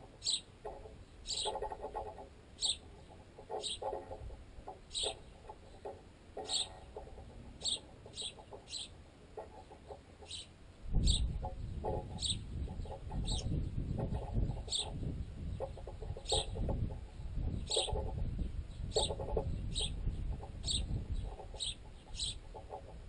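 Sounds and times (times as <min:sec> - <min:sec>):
sparrows chirping: 0:00.2 - 0:22.9.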